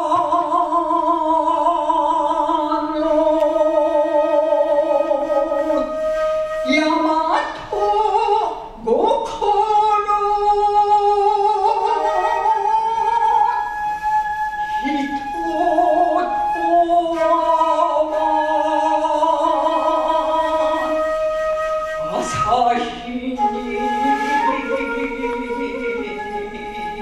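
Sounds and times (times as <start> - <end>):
woman chanting with vibrato: 0.0 - 6.1, 6.7 - 27.0.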